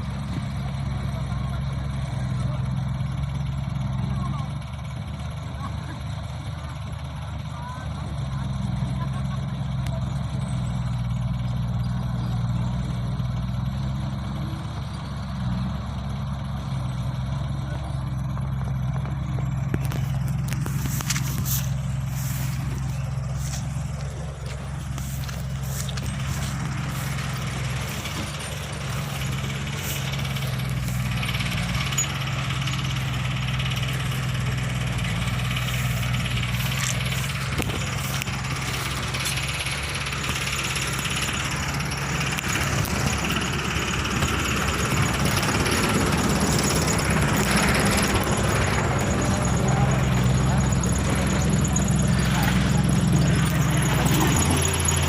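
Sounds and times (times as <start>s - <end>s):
heavy equipment engine humming: 0.0s - 55.0s.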